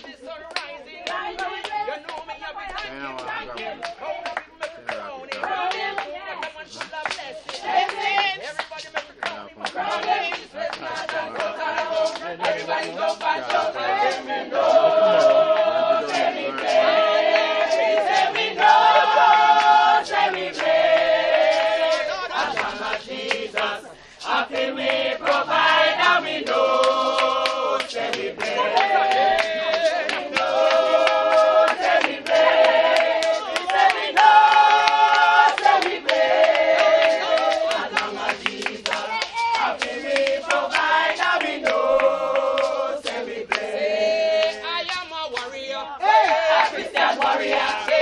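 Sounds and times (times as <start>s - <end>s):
group singing gospel song: 0.0s - 48.0s
hand clapping: 0.0s - 48.0s.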